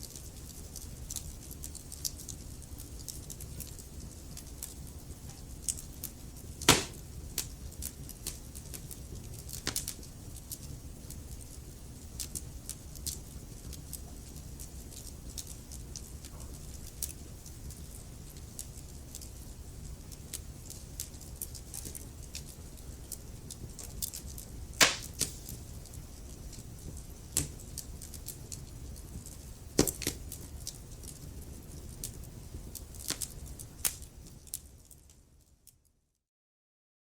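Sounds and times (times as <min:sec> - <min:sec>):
fire crackling and popping: 0:00.0 - 0:35.8.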